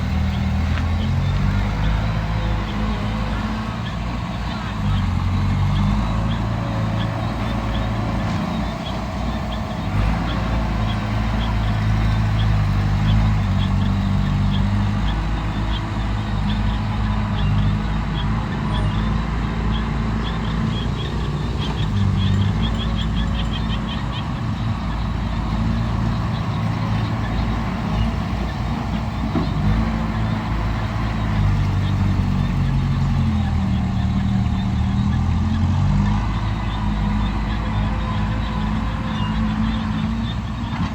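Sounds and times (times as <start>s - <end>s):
diesel machinery running under load: 0.0s - 40.9s.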